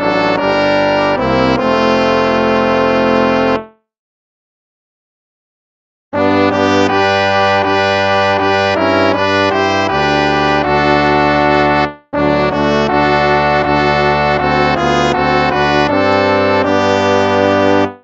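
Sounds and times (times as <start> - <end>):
instrumental hymn music: 0.0 - 3.9, 6.2 - 18.0.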